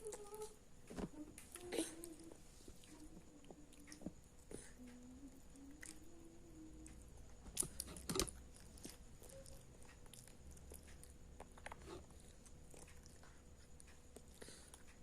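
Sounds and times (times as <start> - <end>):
child chewing: 0.0 - 15.0.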